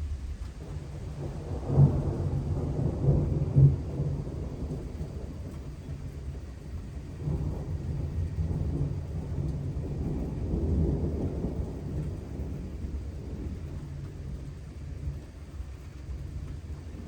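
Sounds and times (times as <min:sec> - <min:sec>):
light rain: 0:00.0 - 0:17.0
rolling thunder: 0:00.0 - 0:17.0.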